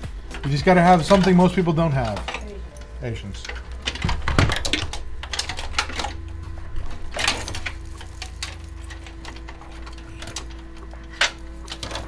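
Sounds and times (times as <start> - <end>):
cables and parts rattling: 0.0 - 12.0
faint steady hum: 0.0 - 12.0.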